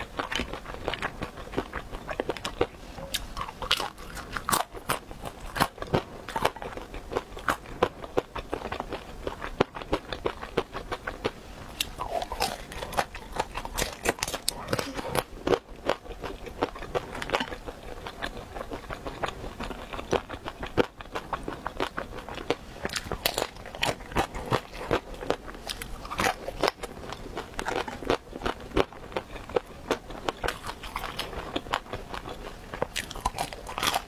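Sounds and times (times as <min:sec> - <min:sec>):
crunchy chewing clicks: 0:00.0 - 0:34.0.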